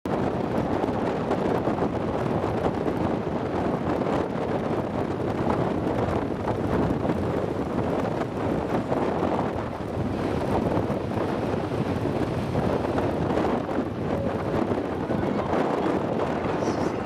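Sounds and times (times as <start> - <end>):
wind buffeting the microphone: 0.1 - 17.0.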